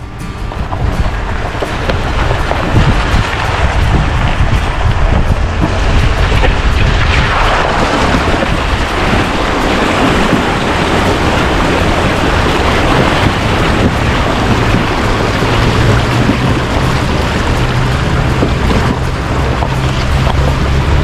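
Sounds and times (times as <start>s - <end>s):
water splashing and rushing: 0.0s - 21.0s
wind buffeting microphone: 0.0s - 21.0s.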